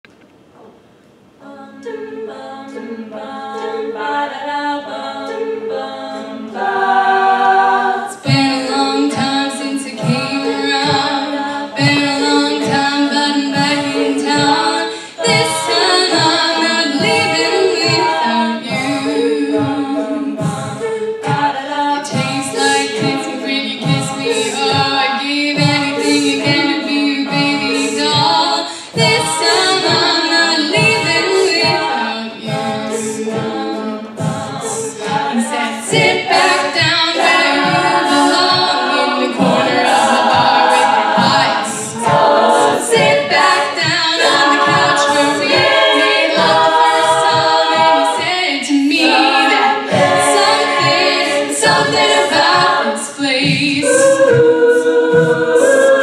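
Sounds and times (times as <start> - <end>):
women's a cappella singing: 1.3 - 56.0
vocal percussion beat: 4.8 - 56.0.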